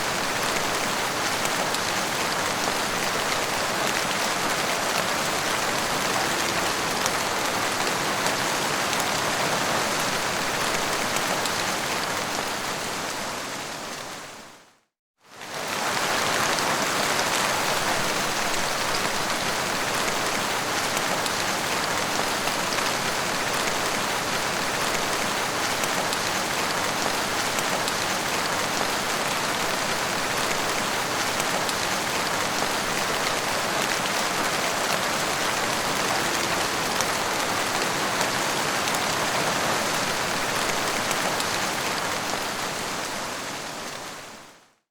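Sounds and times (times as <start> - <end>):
steady rain falling: 0.0 - 44.8.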